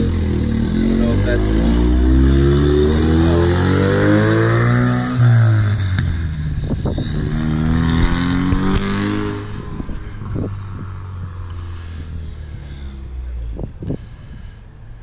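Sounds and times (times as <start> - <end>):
turbocharged car engine accelerating: 0.0 - 14.2.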